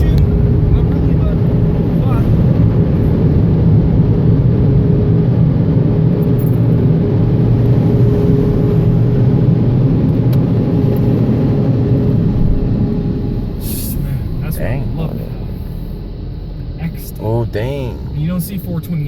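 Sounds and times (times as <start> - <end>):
car wash dryer blowers: 0.0 - 19.0.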